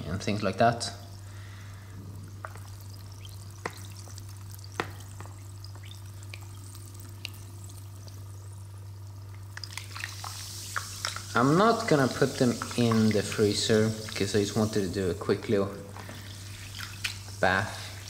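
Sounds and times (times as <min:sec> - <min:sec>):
steady low hum: 0:00.0 - 0:18.0
cola fizzing: 0:01.0 - 0:18.0.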